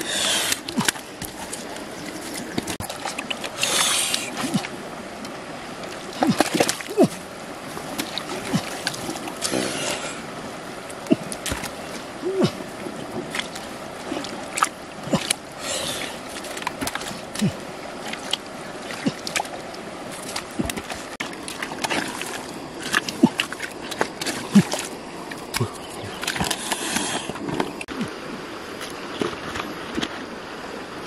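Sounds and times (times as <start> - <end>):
wet mud squelching: 0.0 - 10.2, 10.9 - 28.2
muddy water splashing: 0.0 - 31.0.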